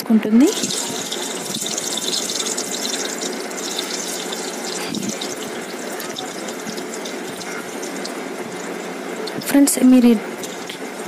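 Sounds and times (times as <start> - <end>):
potatoes deep-frying in oil: 0.4 - 11.0.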